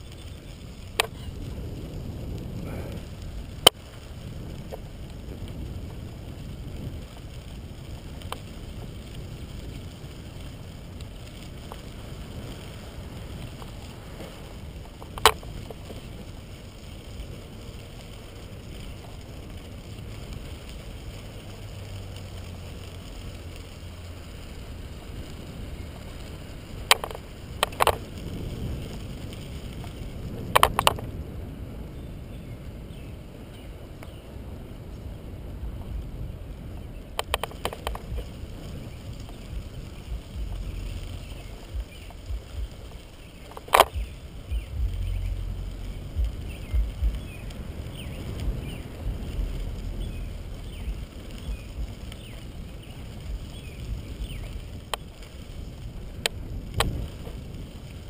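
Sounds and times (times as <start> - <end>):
bicycle tyres rolling on gravel: 0.0 - 58.0.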